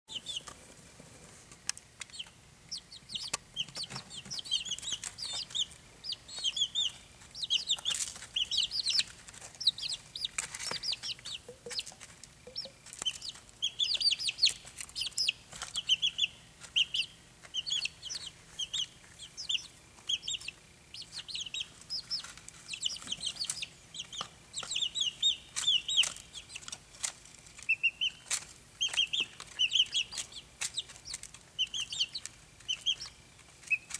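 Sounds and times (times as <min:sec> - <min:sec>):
chicks peeping: 0:00.1 - 0:33.9
beaks tapping plastic feeder: 0:01.5 - 0:33.9.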